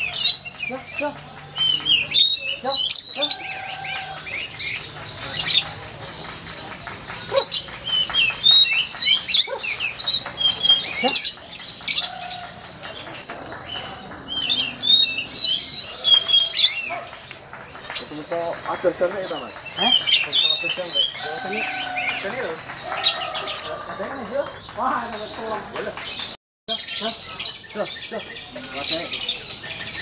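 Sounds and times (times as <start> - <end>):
songbirds chirping and whistling: 0.0 - 30.0.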